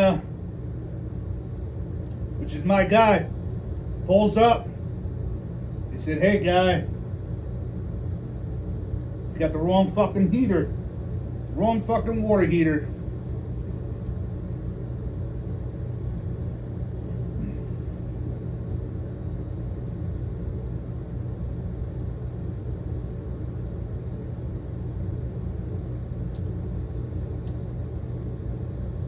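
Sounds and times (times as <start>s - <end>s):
low hum: 0.0s - 29.0s
low mechanical rumble: 0.0s - 29.0s.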